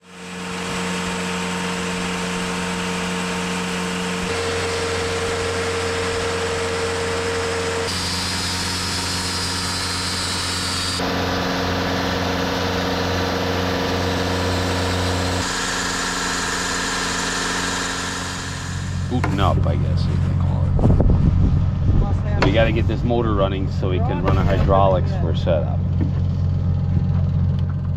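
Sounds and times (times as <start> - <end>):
engine running: 0.0 - 27.9.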